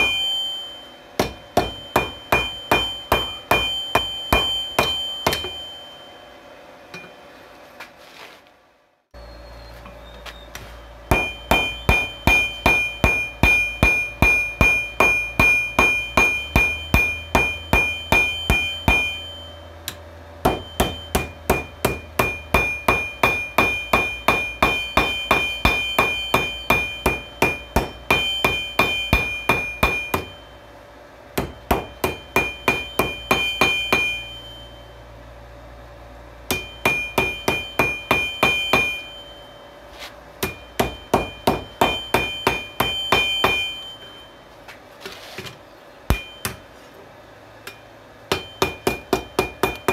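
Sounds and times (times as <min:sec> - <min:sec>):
hammer striking steel on anvil: 0:00.0 - 0:06.3, 0:06.9 - 0:07.2, 0:11.1 - 0:30.7, 0:31.3 - 0:35.1, 0:36.4 - 0:39.7, 0:40.4 - 0:44.3, 0:46.1 - 0:46.8, 0:47.6 - 0:49.9
low steady hum: 0:00.0 - 0:49.9.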